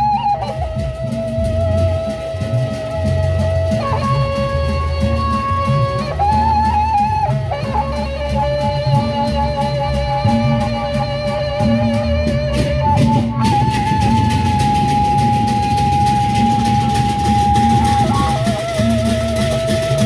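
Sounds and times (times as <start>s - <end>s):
big drums beating: 0.0s - 20.0s
flute melody: 0.0s - 20.0s.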